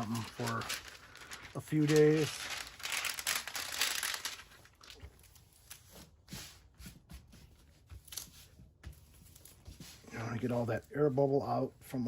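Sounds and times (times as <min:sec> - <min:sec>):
soft rustling of plastic sheet: 0:00.0 - 0:12.0.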